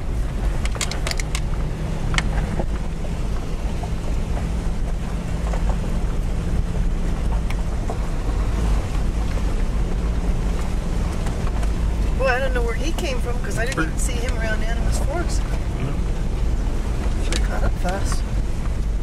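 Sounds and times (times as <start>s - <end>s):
road rumble: 0.0s - 19.0s
vehicle engine drone: 0.0s - 19.0s
sharp clicks and rattles: 0.4s - 19.0s.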